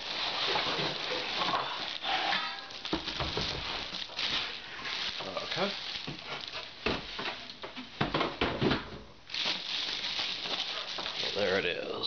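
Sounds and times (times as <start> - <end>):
plastic bag crinkling: 0.0 - 7.8, 9.2 - 12.0.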